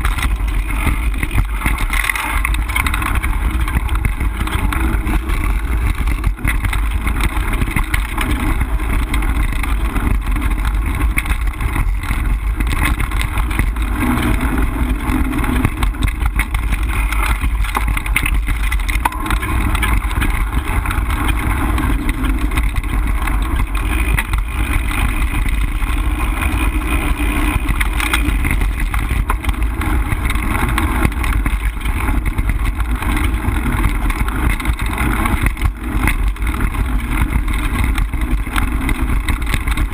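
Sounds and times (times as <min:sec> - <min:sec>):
bike rattling over bumps: 0:00.0 - 0:39.9
wind and trail vibration rumble: 0:00.0 - 0:39.9.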